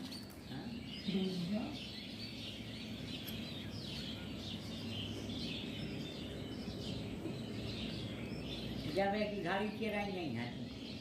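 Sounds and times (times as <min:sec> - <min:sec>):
background noise with low hum: 0:00.0 - 0:11.0
small birds chirping: 0:00.0 - 0:11.0.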